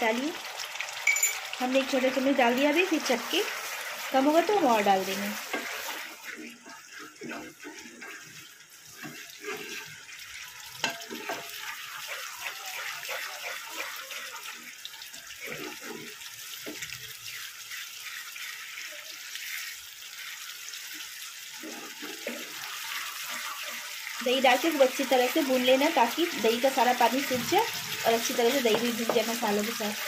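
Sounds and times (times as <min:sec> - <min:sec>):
masala sizzling in oil: 0:00.0 - 0:30.0
spatula scraping a pan: 0:02.8 - 0:30.0.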